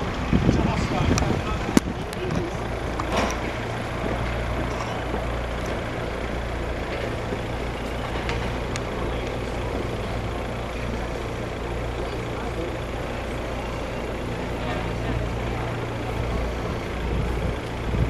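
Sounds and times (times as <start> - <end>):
traffic noise: 0.0 - 18.0
vehicle engines idling: 0.0 - 18.0.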